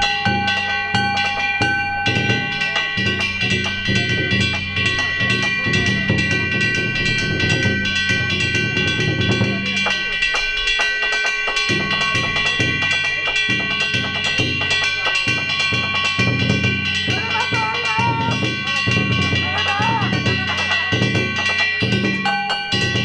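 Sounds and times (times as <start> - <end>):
metal hand gongs ringing: 0.0 - 23.0
taiko drums beating: 0.0 - 23.0.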